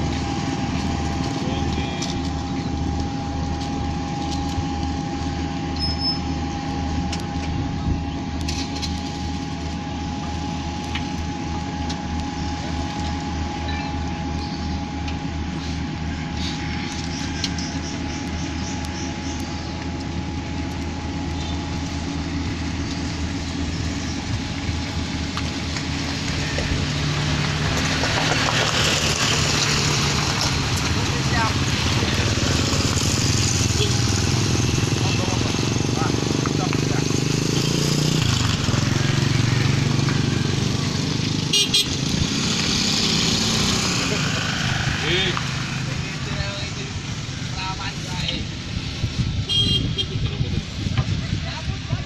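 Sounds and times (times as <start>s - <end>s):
truck driving past: 0.0s - 50.9s
diesel engine idling: 0.0s - 52.0s
steady whine: 0.0s - 52.0s.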